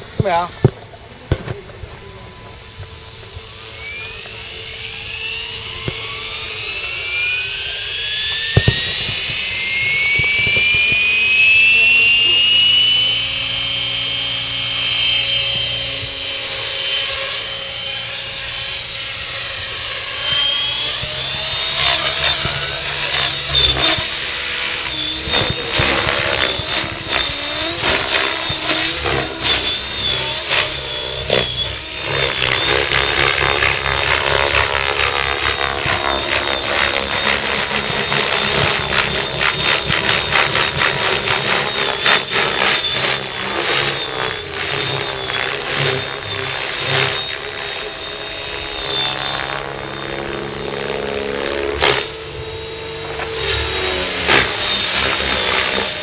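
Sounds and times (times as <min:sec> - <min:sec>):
model helicopter rotor whine: 0:00.0 - 0:56.0.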